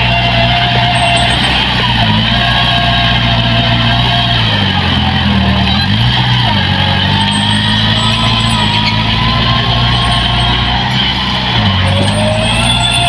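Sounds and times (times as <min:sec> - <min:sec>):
diesel engine running under load: 0:00.0 - 0:13.0
thin whine: 0:00.0 - 0:13.0.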